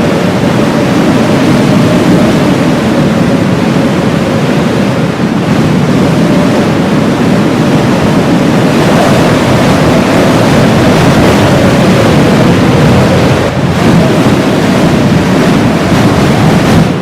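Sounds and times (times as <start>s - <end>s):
faint wind whistling: 0.0s - 17.0s
heavy blizzard wind: 0.0s - 17.0s.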